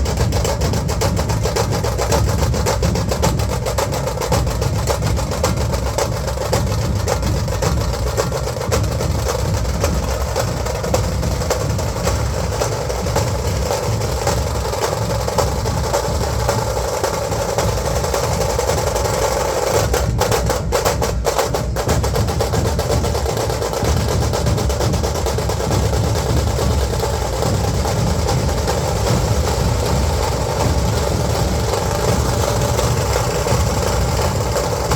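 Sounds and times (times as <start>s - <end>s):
drums beating fast rhythm: 0.0s - 34.9s.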